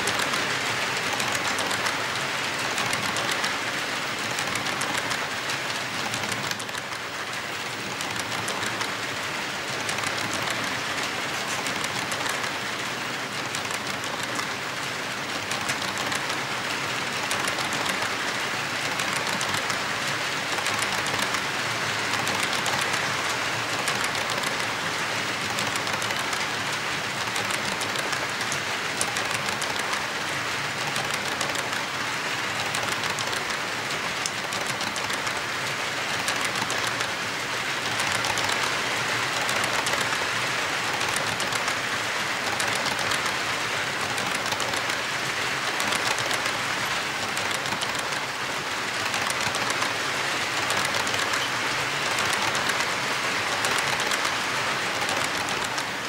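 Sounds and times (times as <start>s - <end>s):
model train wheels clattering: 0.0s - 56.0s
wheels ticking over rail joints: 0.0s - 56.0s.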